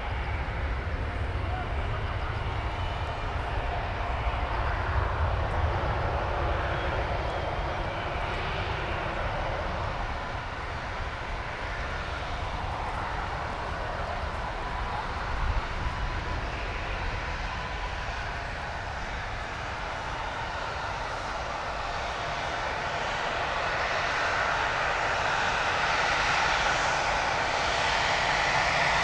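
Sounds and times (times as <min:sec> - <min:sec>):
jet engines rumbling: 0:00.0 - 0:29.0.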